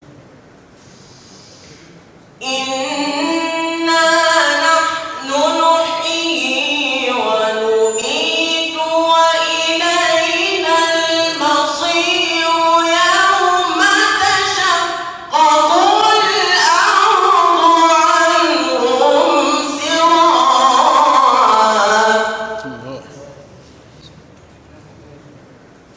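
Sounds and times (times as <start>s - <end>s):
person reciting melodically: 2.4s - 24.2s.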